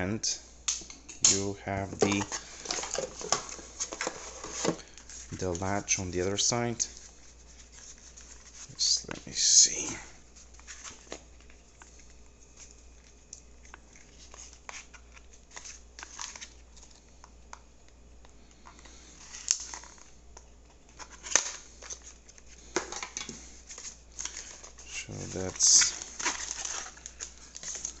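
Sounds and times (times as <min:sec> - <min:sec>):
packaging rustling: 0:01.8 - 0:17.1, 0:18.6 - 0:28.0.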